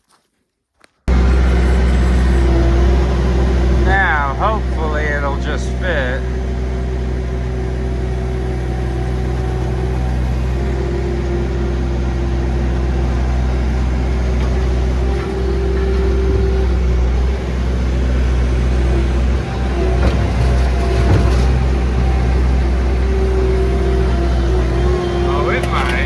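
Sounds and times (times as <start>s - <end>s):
vehicle engine running: 1.1s - 26.0s.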